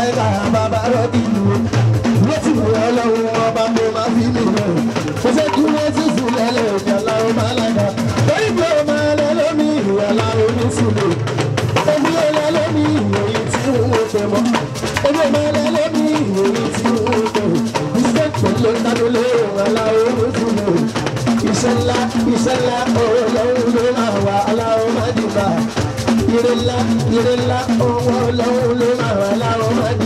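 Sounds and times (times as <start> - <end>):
drums: 0.0 - 30.0
man singing into microphone: 0.0 - 30.0
shaker percussion: 0.0 - 30.0.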